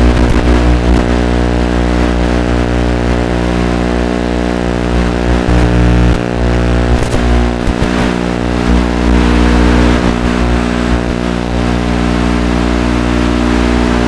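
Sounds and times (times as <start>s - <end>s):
steady buzz: 0.0s - 14.0s.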